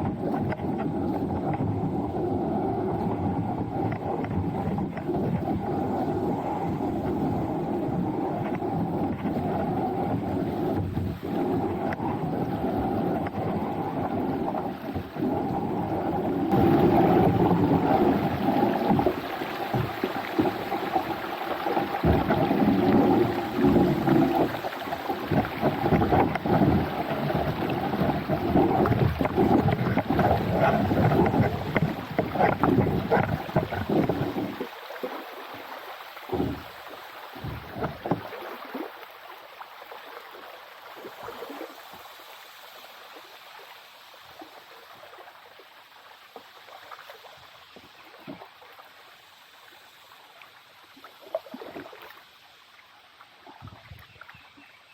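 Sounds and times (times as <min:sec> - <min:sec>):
paddle strokes: 0:00.0 - 0:45.6
stream trickle: 0:00.0 - 0:54.9
water splashing around kayak: 0:00.0 - 0:54.9.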